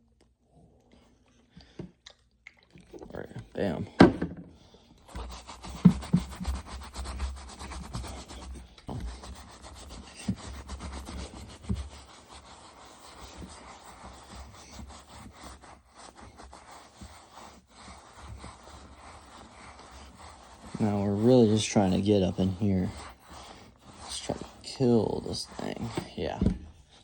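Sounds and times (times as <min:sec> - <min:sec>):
brush scrubbing leather: 0:05.0 - 0:27.0.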